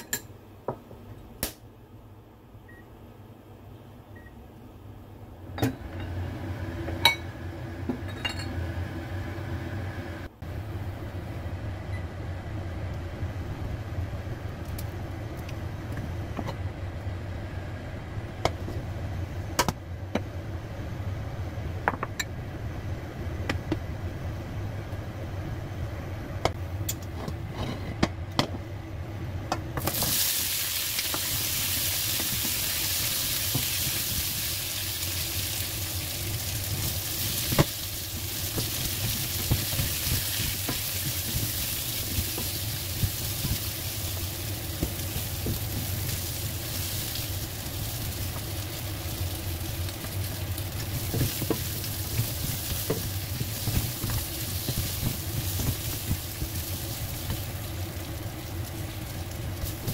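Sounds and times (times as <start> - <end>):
kitchen appliance humming: 5.2 - 59.9.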